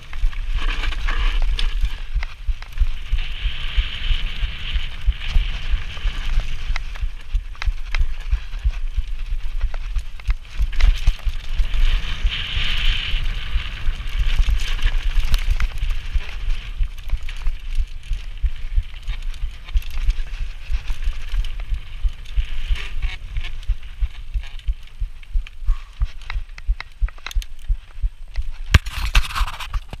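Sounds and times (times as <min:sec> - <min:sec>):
wind buffeting microphone: 0:00.0 - 0:29.4
bike rattling and knocking: 0:00.0 - 0:30.0
tyre noise on dirt: 0:00.0 - 0:30.0.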